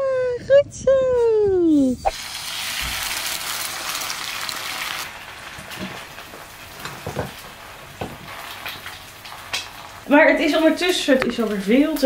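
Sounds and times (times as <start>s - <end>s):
eggs sizzling in frying pan: 2.1s - 12.0s.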